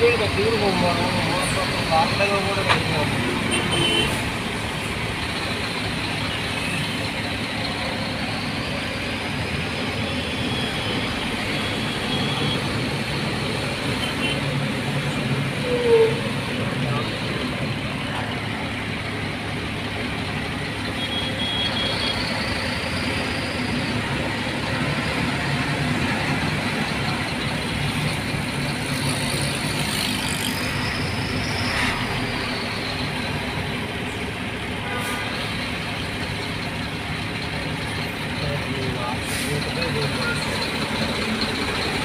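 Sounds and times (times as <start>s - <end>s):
road and water noise: 0.0s - 42.0s
truck engine running: 0.0s - 42.0s.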